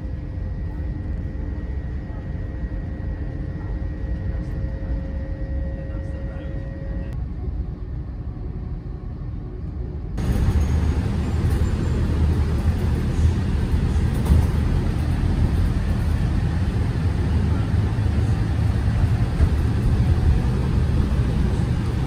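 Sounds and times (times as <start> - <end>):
bus engine rumble: 0.0 - 22.0
train running rumble: 0.0 - 22.0.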